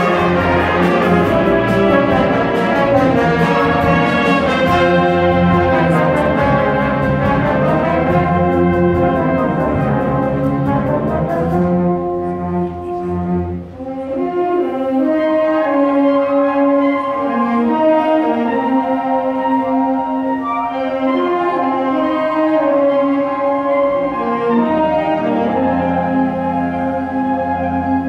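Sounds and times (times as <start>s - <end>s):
concert band playing: 0.0s - 28.0s.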